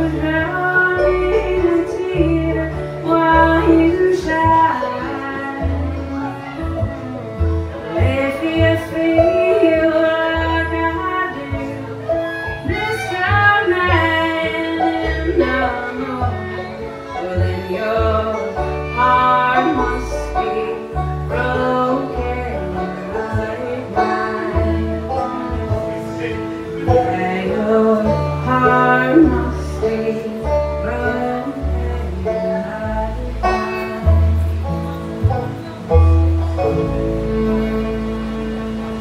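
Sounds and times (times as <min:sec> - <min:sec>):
woman singing: 0:00.0 - 0:26.1, 0:27.0 - 0:34.4
plucked upright bass: 0:00.0 - 0:39.0
strummed acoustic guitar: 0:00.0 - 0:39.0.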